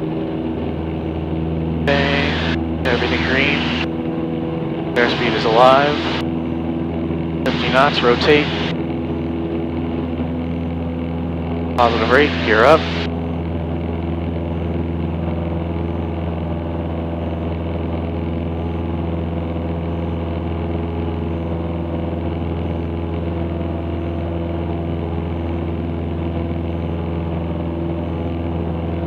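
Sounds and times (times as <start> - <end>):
propeller plane engine droning: 0.0 - 29.0.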